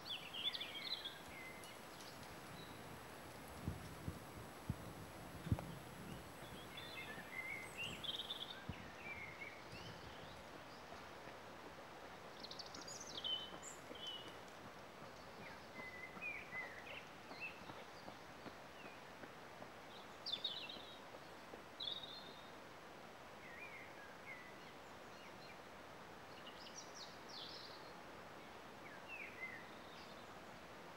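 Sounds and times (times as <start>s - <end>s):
steady outdoor hiss: 0.0s - 30.9s.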